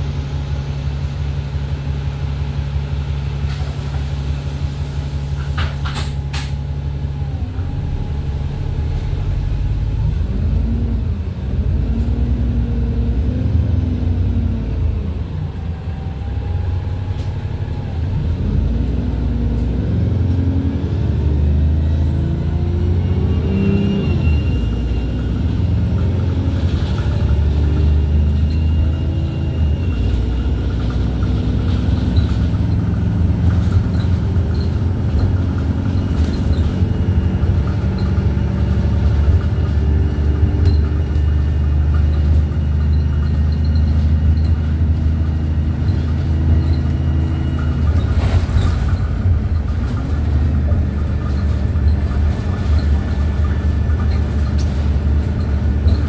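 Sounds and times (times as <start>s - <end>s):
bus diesel engine: 0.0s - 56.0s.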